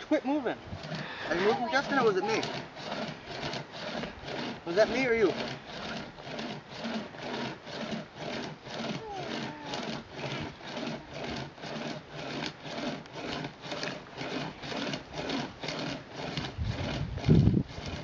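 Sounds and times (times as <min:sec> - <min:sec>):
pocket chain saw rasping wood: 0:00.0 - 0:18.0.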